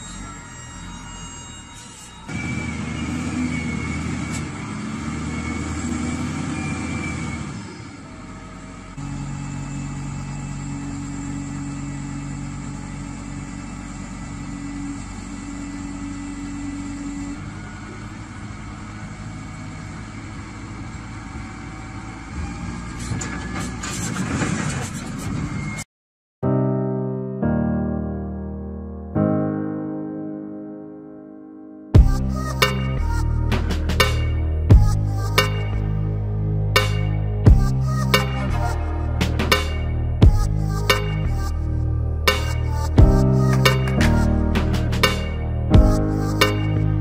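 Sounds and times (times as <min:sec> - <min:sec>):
heavy diesel engines under load: 0:00.0 - 0:25.9, 0:32.0 - 0:47.0.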